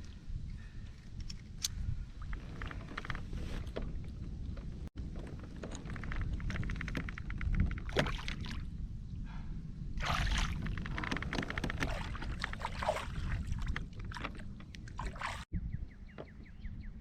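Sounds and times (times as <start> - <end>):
water sloshing and gurgling: 0.0 - 8.9, 9.9 - 15.5.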